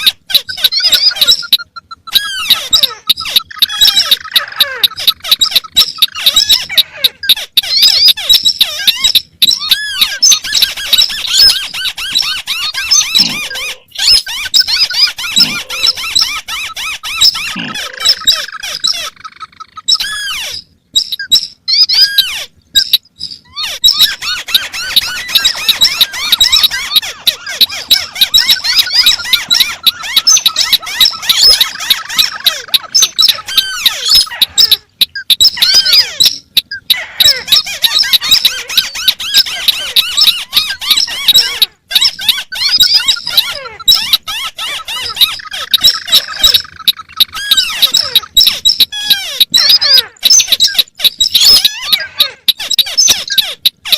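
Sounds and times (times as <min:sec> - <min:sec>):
crakes calling: 0:00.0 - 0:53.9.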